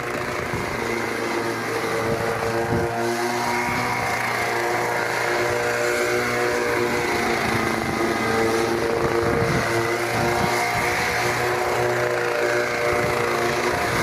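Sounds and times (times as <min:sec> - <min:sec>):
turboprop aircraft droning: 0:00.0 - 0:14.0.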